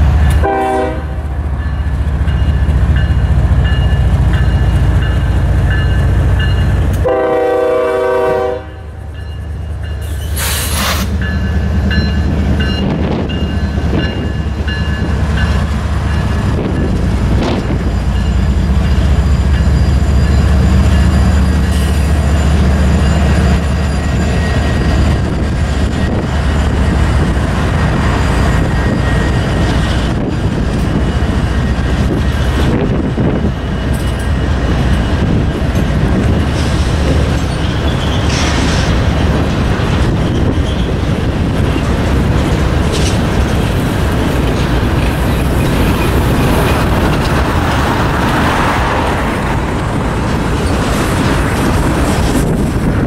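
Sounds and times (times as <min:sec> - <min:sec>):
diesel locomotive engine rumble: 0:00.0 - 0:53.0
train wheels clacking on rails: 0:00.0 - 0:53.0.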